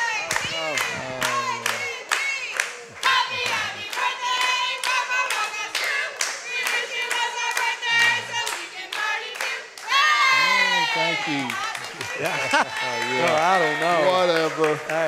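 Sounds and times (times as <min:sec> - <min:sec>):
cheerleaders chanting a cheer: 0:00.0 - 0:14.8
rhythmic clapping: 0:00.0 - 0:15.0.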